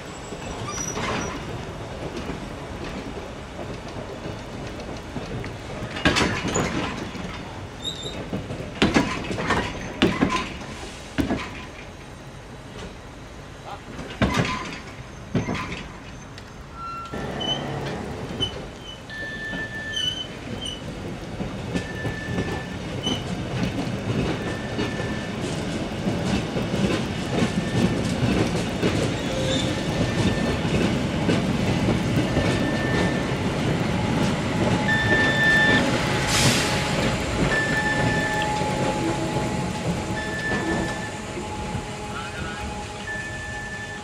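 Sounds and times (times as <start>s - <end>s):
train wheels clattering over rail joints: 0.4s - 12.0s, 13.9s - 41.2s.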